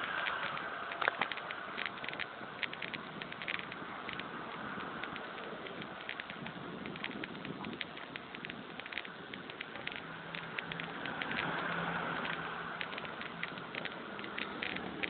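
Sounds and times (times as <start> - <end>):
bike clicks and rattles: 0.0 - 15.0
passing vehicle hum: 0.0 - 15.0
tyre noise: 0.0 - 15.0
wind noise: 0.0 - 15.0.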